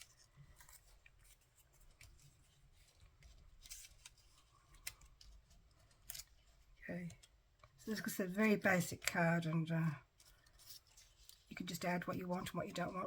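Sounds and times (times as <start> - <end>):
light clicks of paper pieces: 0.0 - 8.1, 8.8 - 13.0
paper rustling: 0.0 - 13.0.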